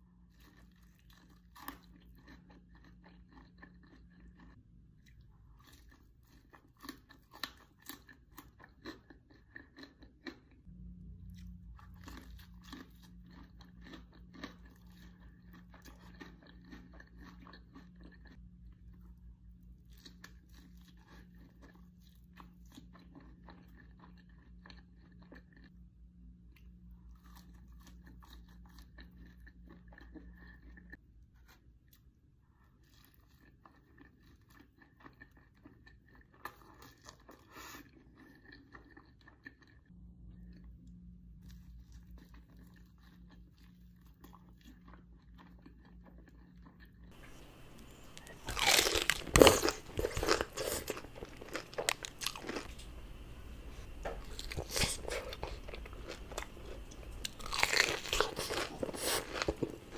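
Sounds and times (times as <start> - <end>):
faint low hum: 0.0 - 59.9
crunchy chewing: 0.2 - 10.7, 11.3 - 25.7, 27.0 - 32.0, 32.8 - 40.7, 41.3 - 59.9.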